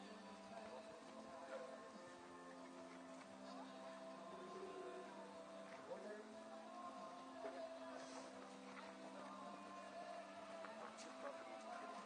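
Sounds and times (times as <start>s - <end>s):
faint music with long notes: 0.0s - 12.0s.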